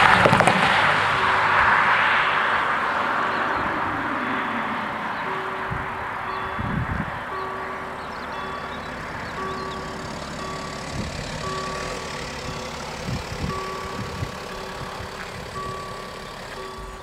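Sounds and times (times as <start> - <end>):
car thumping over crossing: 0.0 - 17.0
level crossing bells ringing: 0.8 - 17.0.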